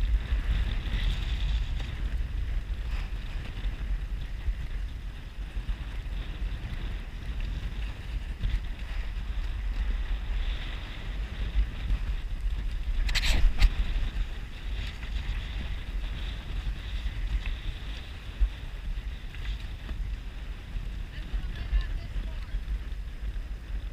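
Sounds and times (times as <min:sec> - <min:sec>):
waves: 0:00.0 - 0:23.9
wind buffeting microphone: 0:00.0 - 0:23.9.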